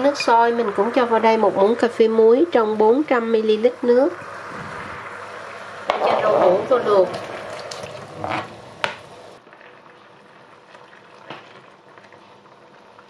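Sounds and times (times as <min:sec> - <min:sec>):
water boiling and bubbling: 0:00.0 - 0:13.0.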